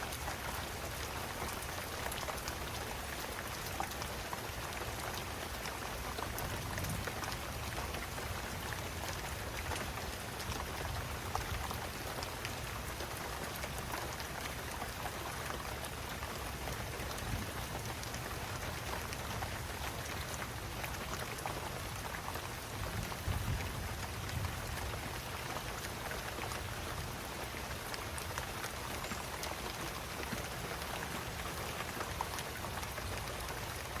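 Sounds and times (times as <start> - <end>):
raindrops ticking: 0.0 - 34.0
steady rain falling: 0.0 - 34.0.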